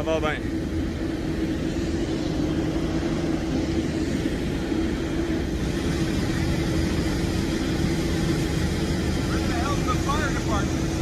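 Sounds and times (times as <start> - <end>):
aircraft engines droning: 0.0 - 11.0
constant humming tone: 0.0 - 11.0.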